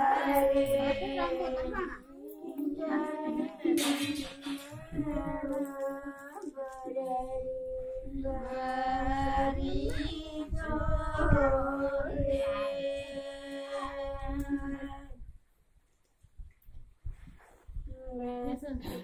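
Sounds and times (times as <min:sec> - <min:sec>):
women singing folk song together: 0:00.0 - 0:15.2.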